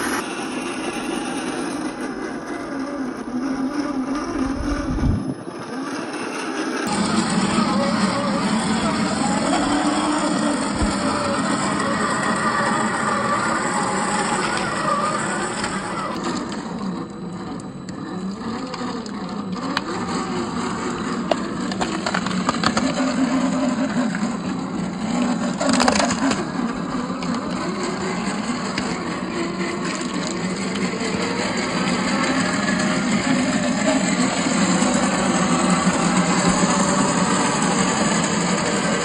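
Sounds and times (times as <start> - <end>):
small electric motor whining: 0.0 - 39.0.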